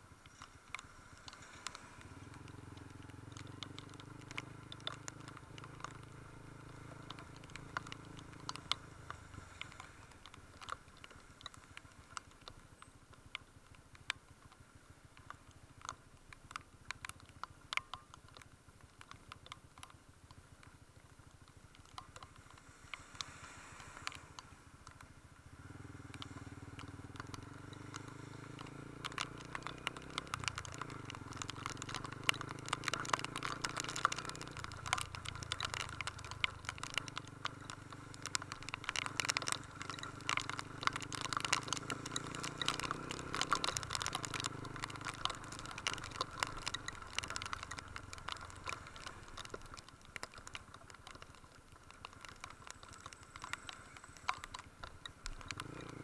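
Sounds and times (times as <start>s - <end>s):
motorcycle engine running: 0.0s - 56.0s
raindrops pattering: 0.0s - 56.0s.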